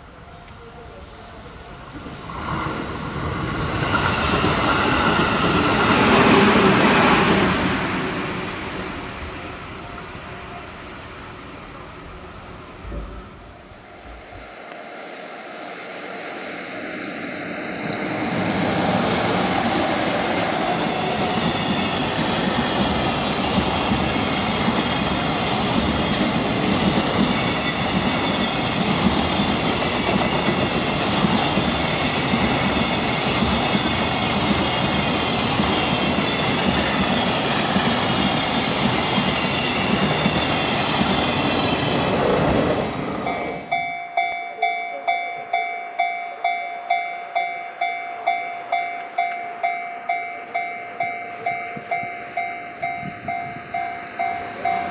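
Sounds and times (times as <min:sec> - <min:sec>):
freight train passing: 0:00.0 - 0:54.9.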